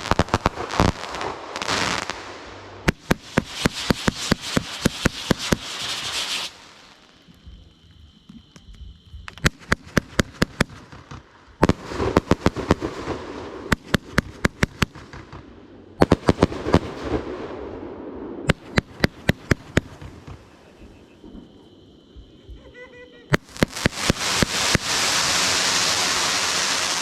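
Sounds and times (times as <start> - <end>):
fireworks banging: 0.0 - 7.6, 8.2 - 17.8, 18.4 - 27.0
fireworks crackling: 0.0 - 17.8, 18.4 - 21.7, 23.3 - 27.0.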